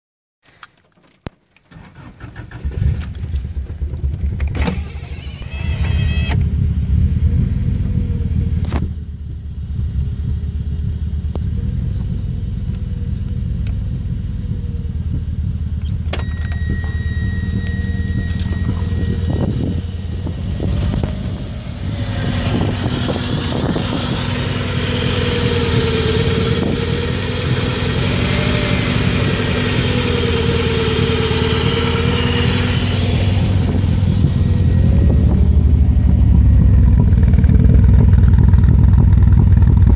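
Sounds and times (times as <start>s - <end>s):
car engine misfiring: 1.6s - 9.2s, 9.8s - 39.9s.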